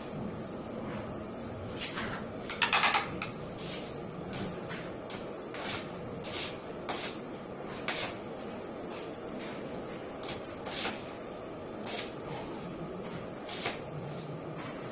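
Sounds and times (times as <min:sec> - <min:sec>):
low background hum: 0:00.0 - 0:14.9.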